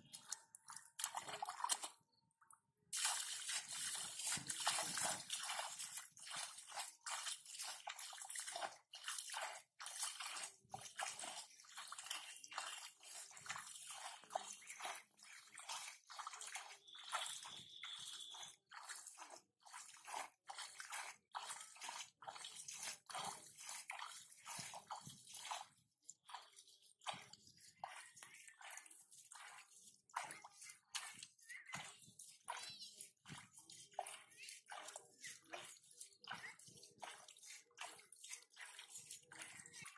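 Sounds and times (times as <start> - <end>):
hands splashing in muddy water: 0.0 - 2.2, 2.9 - 39.9.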